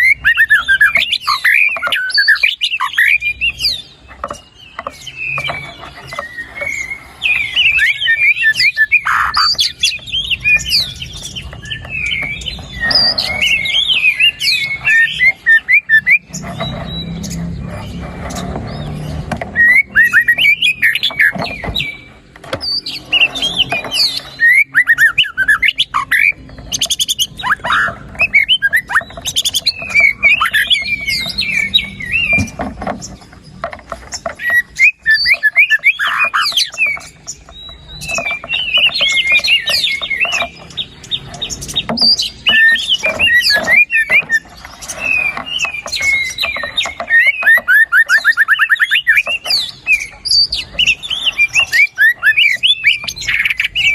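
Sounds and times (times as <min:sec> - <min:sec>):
bird singing whistled phrases: 0:00.0 - 0:17.3, 0:19.6 - 0:32.6, 0:34.4 - 0:53.9.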